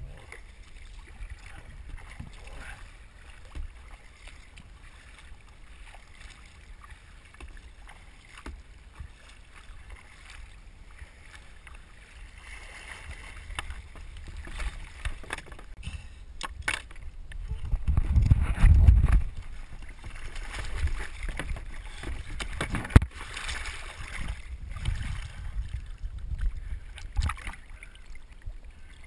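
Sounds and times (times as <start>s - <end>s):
paddle splashing water: 0.0s - 29.0s.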